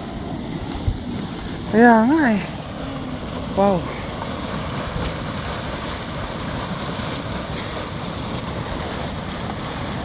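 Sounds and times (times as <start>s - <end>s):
mud pot bubbling: 0.0s - 10.0s.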